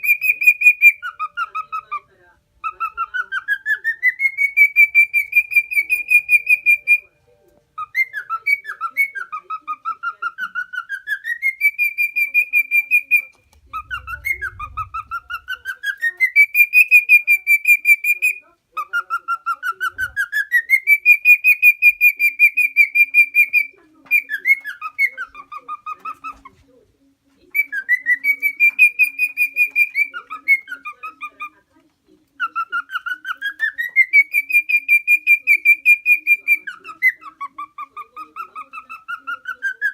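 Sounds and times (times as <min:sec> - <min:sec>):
cockatiel whistling song: 0:00.0 - 0:02.0, 0:02.6 - 0:07.2, 0:07.8 - 0:26.3, 0:27.5 - 0:31.5, 0:32.4 - 0:39.9.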